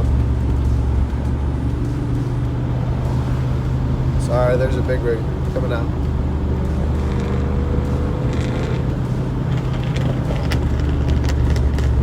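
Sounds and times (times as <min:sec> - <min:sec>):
car engine revving: 0:00.0 - 0:12.0
truck engine drone: 0:00.0 - 0:12.0.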